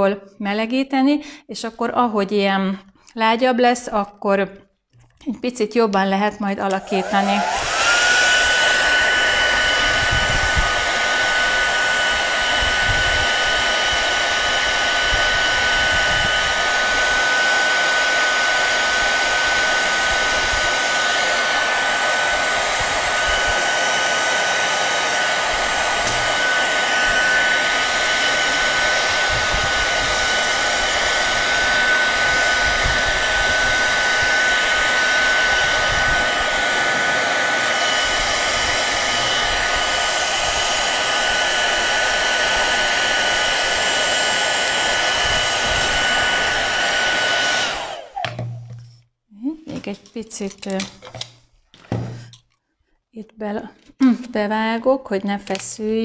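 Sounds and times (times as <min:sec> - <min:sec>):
hair dryer blowing air: 0:06.0 - 0:49.0, 0:49.7 - 0:52.4, 0:55.4 - 0:56.0.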